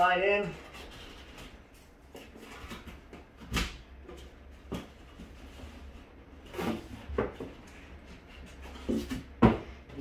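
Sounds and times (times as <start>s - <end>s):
cardboard pieces scraping and knocking: 0.6s - 9.7s.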